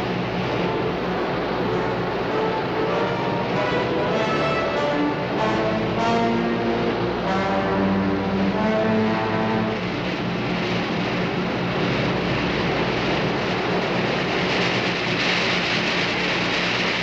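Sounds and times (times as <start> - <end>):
rushing rumble into water: 0.0 - 17.0.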